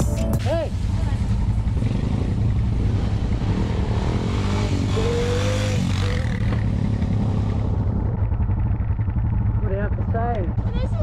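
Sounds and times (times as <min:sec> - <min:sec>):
quad bike engine droning: 0:00.0 - 0:11.0.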